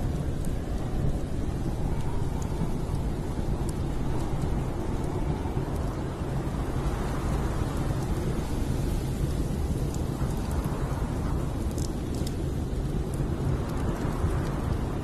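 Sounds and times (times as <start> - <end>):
storm wind rumble and hiss: 0.0 - 15.0
wood fire crackling: 0.0 - 15.0.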